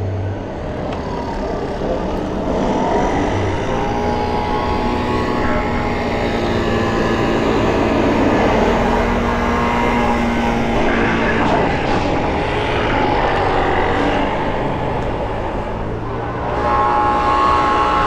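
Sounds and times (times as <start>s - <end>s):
electric scooter motor whine: 0.0s - 18.0s.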